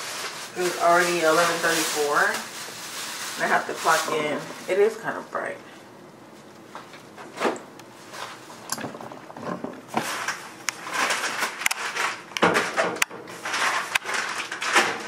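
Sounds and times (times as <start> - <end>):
rustling: 0.0 - 5.0, 6.3 - 15.0.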